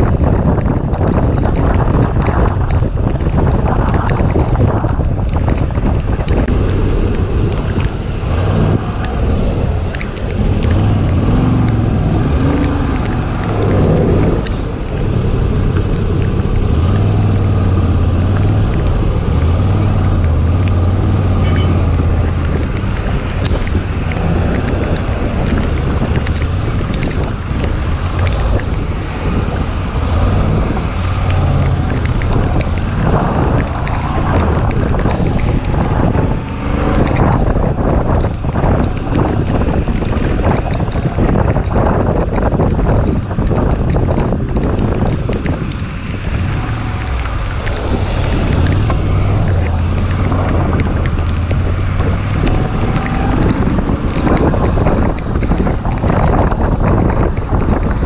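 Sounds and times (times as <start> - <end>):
motorcycle engine hum: 0.0 - 58.0
road noise: 0.0 - 58.0
wind rushing over microphone: 0.0 - 58.0.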